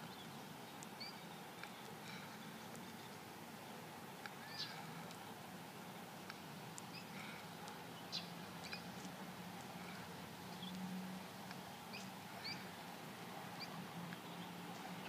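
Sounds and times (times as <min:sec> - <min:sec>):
small birds chirping: 0:00.0 - 0:05.3, 0:06.1 - 0:15.0.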